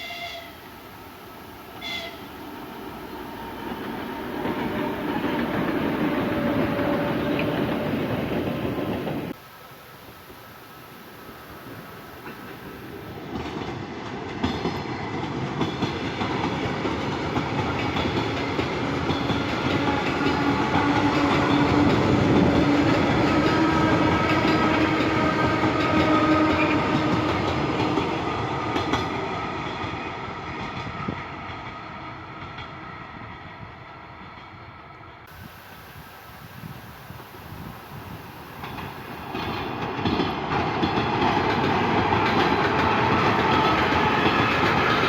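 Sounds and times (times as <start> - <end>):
train passing: 0.0 - 45.0.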